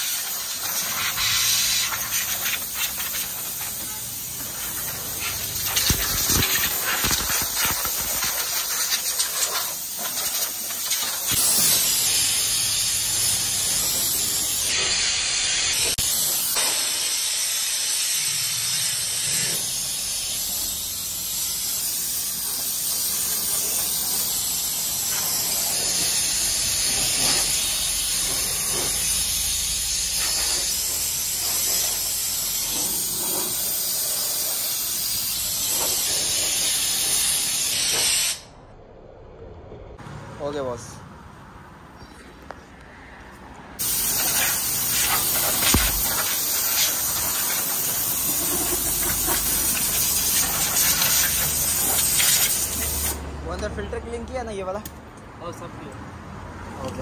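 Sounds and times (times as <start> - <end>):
compressed air blow gun hissing: 0.0 - 38.5, 43.8 - 53.2.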